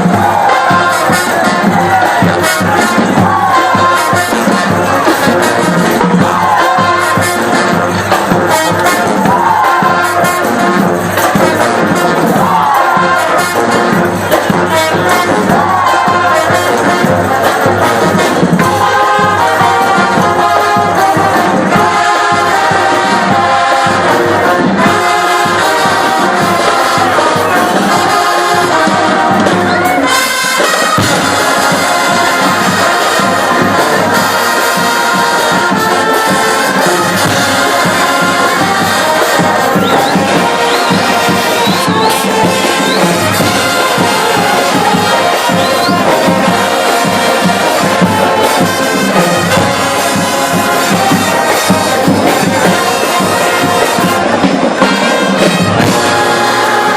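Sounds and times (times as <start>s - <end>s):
brass horns playing: 0.0s - 56.9s
marching drums: 0.0s - 56.9s.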